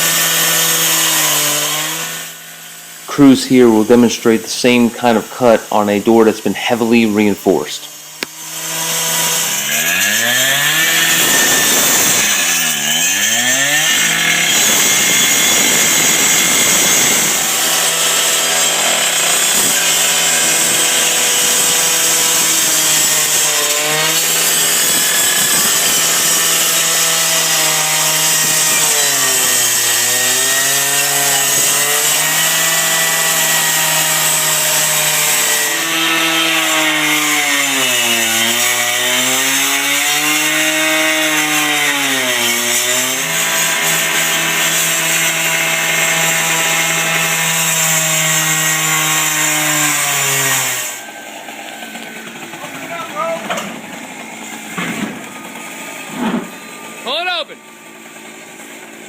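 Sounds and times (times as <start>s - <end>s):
cut-off saw engine revving: 0.0s - 59.0s.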